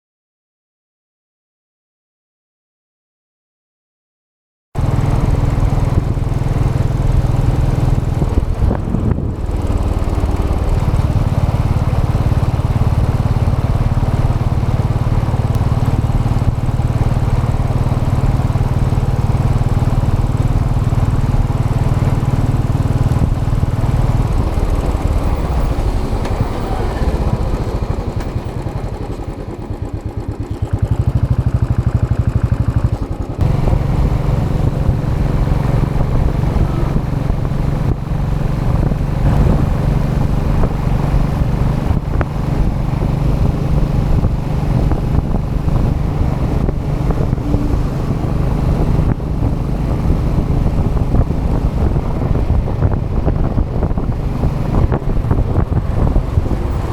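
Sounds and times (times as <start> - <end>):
motorcycle engine on the road: 4.8 - 56.9.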